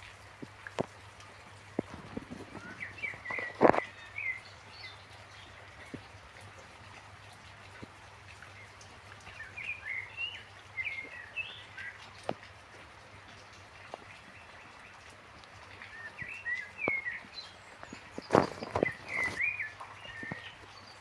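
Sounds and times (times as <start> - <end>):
light rain hiss: 0.0 - 21.0
water drips: 0.0 - 21.0
small birds chirping: 0.5 - 6.7, 7.4 - 12.5, 13.4 - 21.0.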